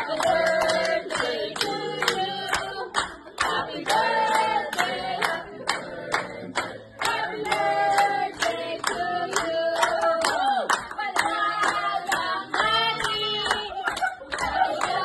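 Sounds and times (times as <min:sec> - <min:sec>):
hands clapping in time: 0:00.0 - 0:04.0, 0:04.7 - 0:15.0
group singing: 0:00.0 - 0:15.0.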